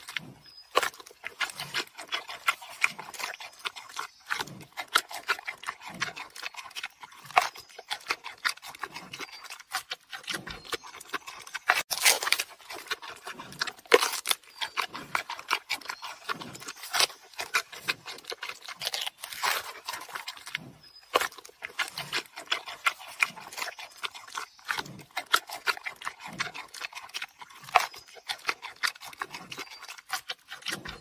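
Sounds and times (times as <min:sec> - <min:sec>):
panda chewing bamboo crunches: 0:00.0 - 0:31.0.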